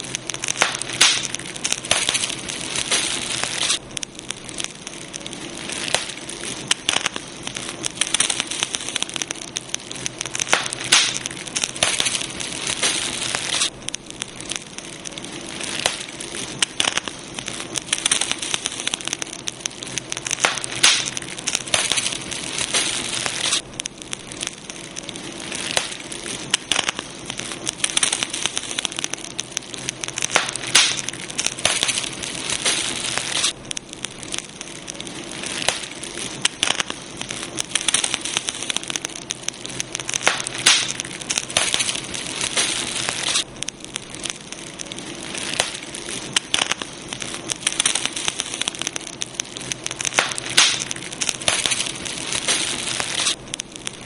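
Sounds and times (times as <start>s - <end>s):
campfire crackling and popping: 0.0s - 54.0s
hiss of burning wood: 0.0s - 54.0s.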